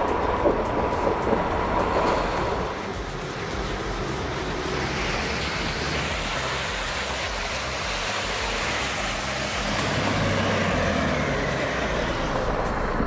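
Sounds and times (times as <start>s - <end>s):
dense rushing noise: 0.0s - 13.0s
heavy vehicle engine running: 0.0s - 13.0s.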